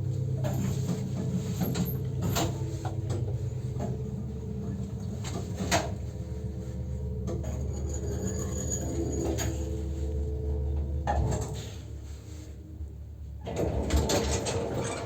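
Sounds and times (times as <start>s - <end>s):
lift motor hum: 0.0s - 15.0s.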